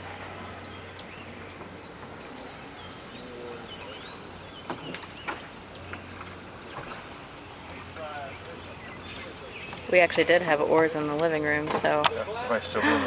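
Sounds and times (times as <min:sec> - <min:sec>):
birds chirping: 0:00.0 - 0:13.0
boat motor humming: 0:00.0 - 0:13.0.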